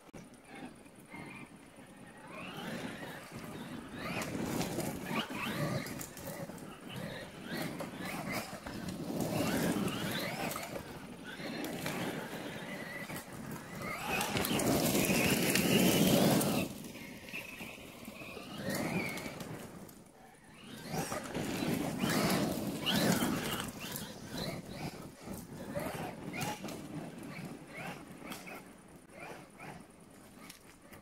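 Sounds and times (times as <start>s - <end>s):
tyres on gravel: 0.2s - 31.0s
electric motor whining: 0.4s - 29.8s.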